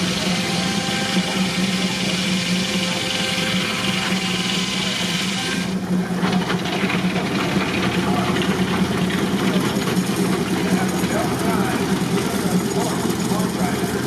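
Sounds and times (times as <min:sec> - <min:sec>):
rapid mechanical clatter: 0:00.0 - 0:14.0
steam tractor running: 0:00.0 - 0:14.0.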